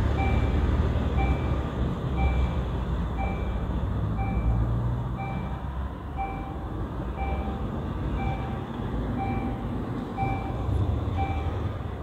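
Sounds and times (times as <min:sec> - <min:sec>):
crossing signal beeping: 0:00.0 - 0:11.8.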